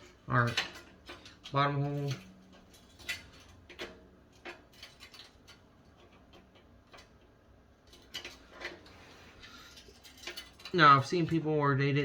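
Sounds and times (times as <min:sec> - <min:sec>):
metal parts clicking and tapping: 0:00.0 - 0:12.0.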